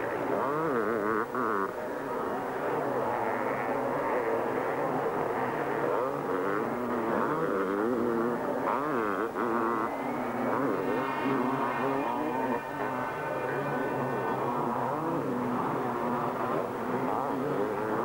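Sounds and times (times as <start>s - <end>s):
motocross bikes racing: 0.0s - 18.0s.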